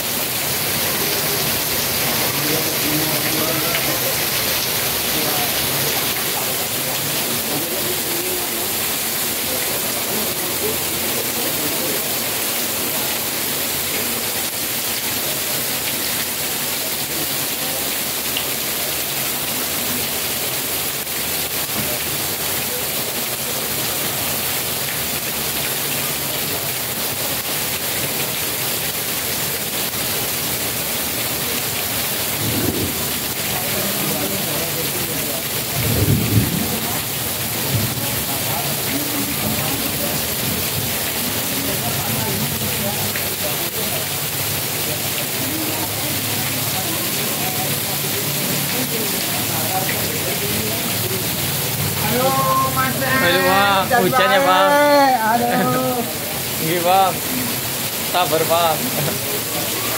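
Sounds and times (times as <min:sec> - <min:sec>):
heavy rain on concrete: 0:00.0 - 0:59.9.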